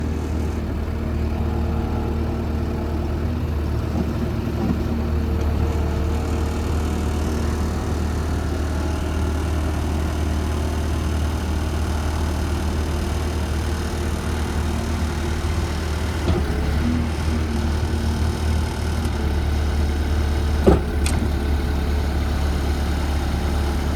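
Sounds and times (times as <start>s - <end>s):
diesel engine humming: 0.0s - 23.9s.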